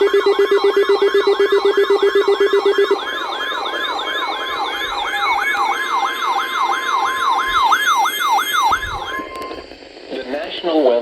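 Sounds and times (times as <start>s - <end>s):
electronic siren alert tone: 0.0s - 9.6s.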